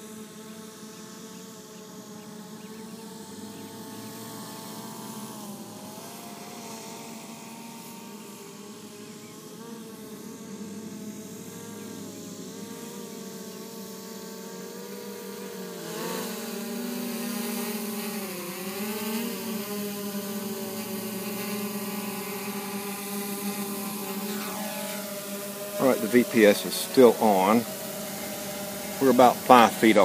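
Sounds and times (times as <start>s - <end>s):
drone propellers buzzing: 0.0s - 30.0s.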